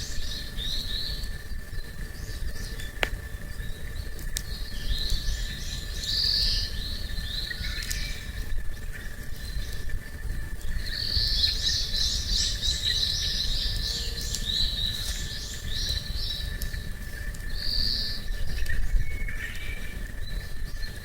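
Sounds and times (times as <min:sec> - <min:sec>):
faint insect tone: 0:00.0 - 0:21.0
songbird chirping: 0:00.0 - 0:21.0.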